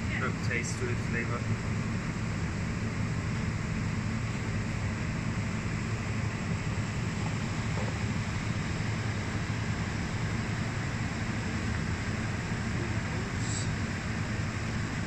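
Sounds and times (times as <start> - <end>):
ventilation rumble and hiss: 0.0 - 15.0.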